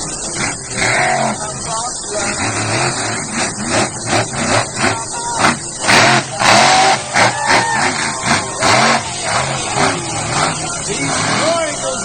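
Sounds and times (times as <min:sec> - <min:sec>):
crowd noise: 0:00.0 - 0:12.0
truck engine revving: 0:00.0 - 0:12.0.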